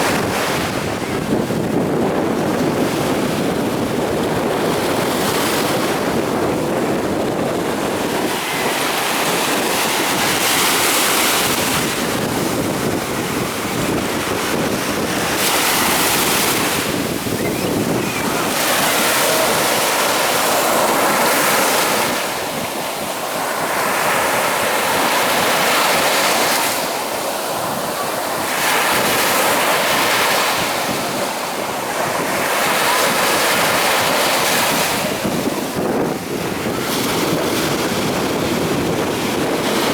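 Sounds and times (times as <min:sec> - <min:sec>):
waves breaking: 0:00.0 - 0:39.9
wind on microphone: 0:00.0 - 0:39.9.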